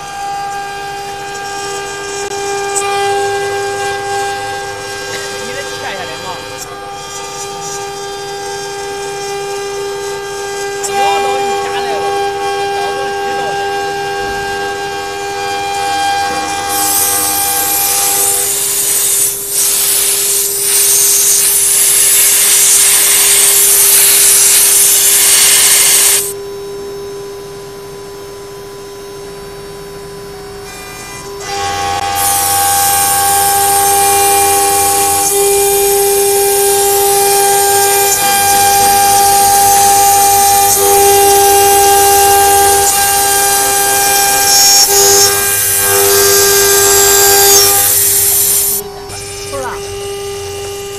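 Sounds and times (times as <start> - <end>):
loud hissing cutting noise: 0.0 - 26.4, 30.6 - 50.9
high-pitched spindle whine: 0.0 - 50.9.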